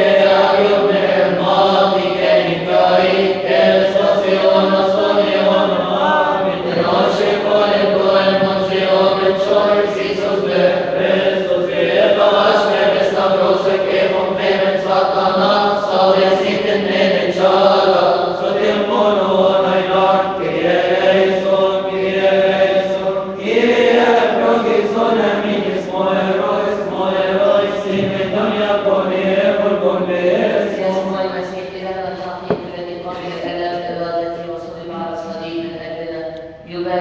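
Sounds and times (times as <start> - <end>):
men chanting a hymn: 0.0 - 31.4.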